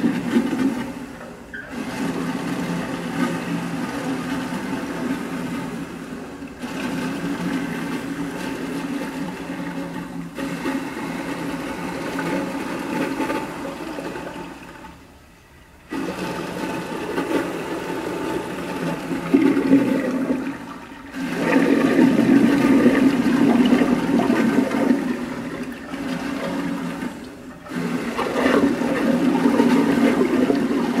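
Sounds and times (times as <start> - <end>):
toilet flushing: 0.0 - 31.0.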